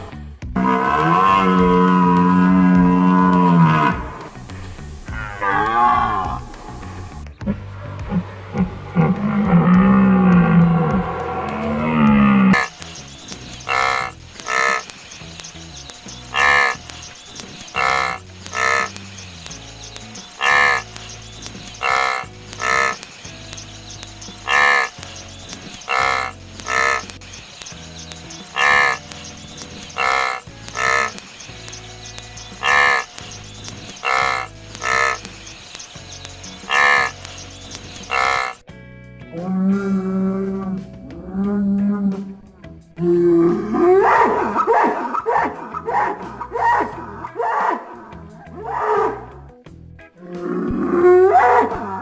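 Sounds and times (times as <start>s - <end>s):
animal calling repeatedly: 0.0s - 38.7s, 39.3s - 52.0s.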